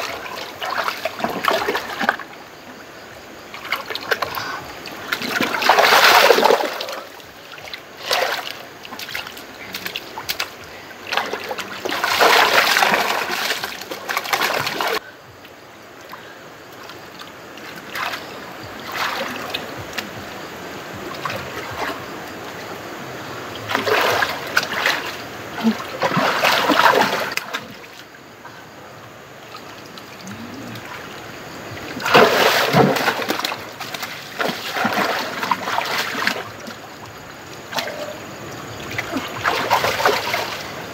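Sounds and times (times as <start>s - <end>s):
splashing in shallow water: 0.0s - 15.1s, 16.1s - 28.8s, 29.4s - 40.9s.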